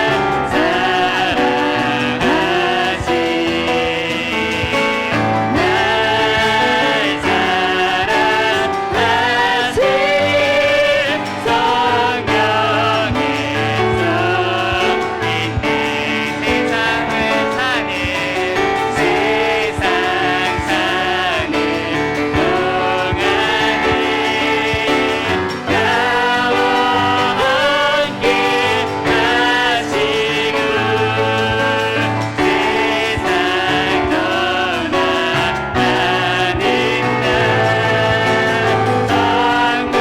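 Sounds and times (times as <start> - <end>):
group singing worship song: 0.0 - 40.0
piano chords: 0.0 - 40.0.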